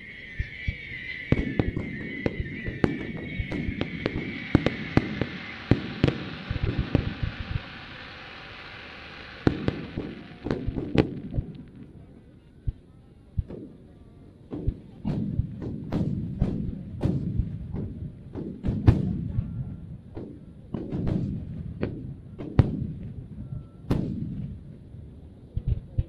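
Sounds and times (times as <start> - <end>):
fireworks bangs with rolling booms: 0.0 - 26.0.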